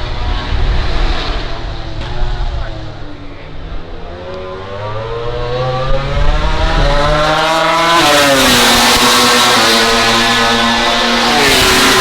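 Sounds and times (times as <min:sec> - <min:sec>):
race bike engine at high revs: 0:00.0 - 0:12.0.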